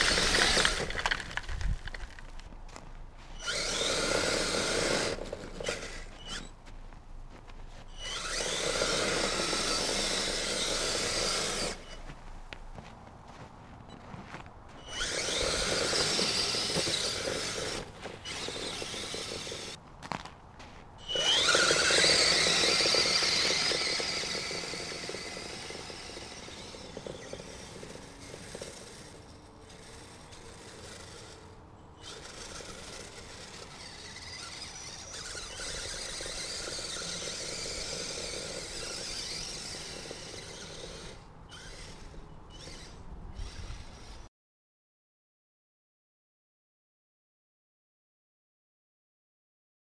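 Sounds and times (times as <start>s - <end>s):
whining electric motor and gears: 0.0s - 12.3s, 13.4s - 20.1s, 21.0s - 44.3s.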